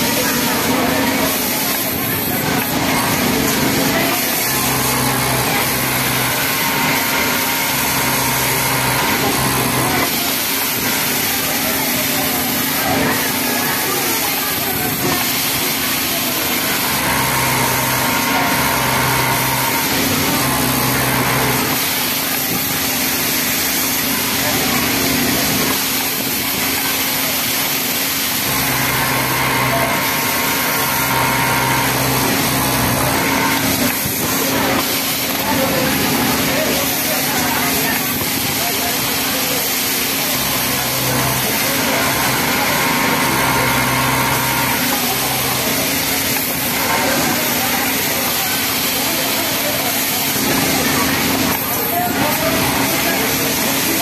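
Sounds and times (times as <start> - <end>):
sewing machine whirring and rattling: 0.0 - 54.0
workshop hiss: 0.0 - 54.0.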